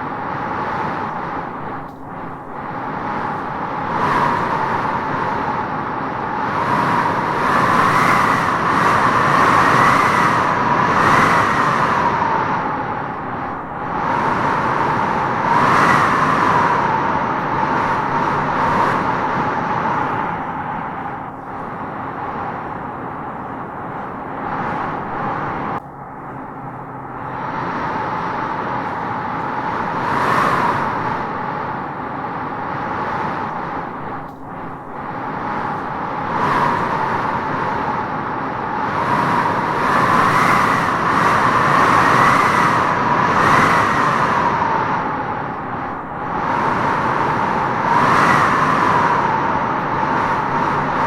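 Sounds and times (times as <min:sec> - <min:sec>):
wind howling through trees: 0:00.0 - 0:51.0.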